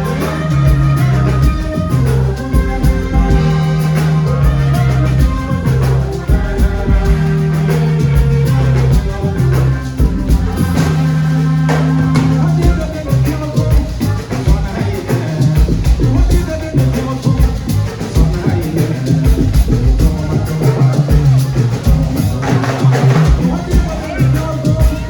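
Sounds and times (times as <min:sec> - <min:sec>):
bass line: 0:00.0 - 0:25.0
drum kit: 0:00.0 - 0:25.0
guitar: 0:00.0 - 0:25.0.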